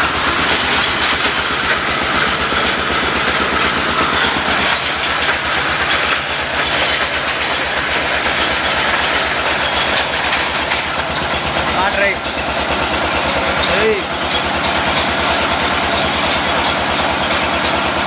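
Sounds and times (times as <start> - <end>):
drilling rig rushing noise: 0.0 - 18.0
fast regular clatter: 0.0 - 18.0.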